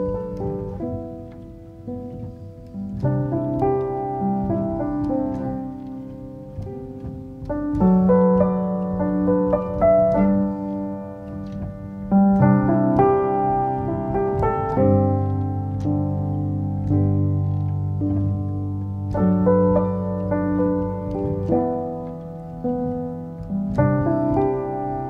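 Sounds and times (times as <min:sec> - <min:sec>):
piano playing slow chords: 0:00.0 - 0:25.0.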